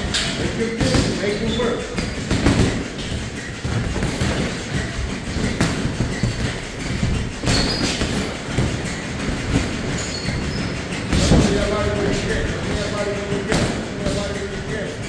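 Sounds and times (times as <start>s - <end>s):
boxing gloves smacking: 0.0s - 14.6s.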